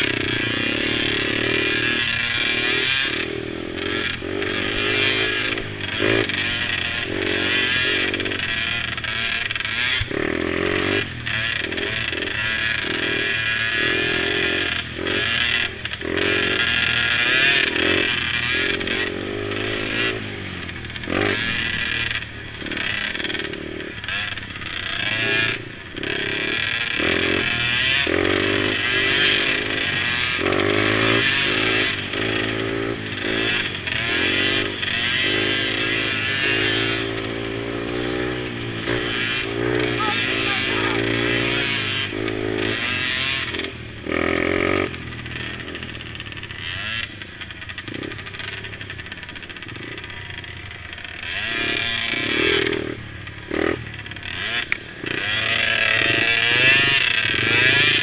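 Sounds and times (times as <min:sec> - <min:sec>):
mini quad engines revving: 0:00.0 - 0:58.0.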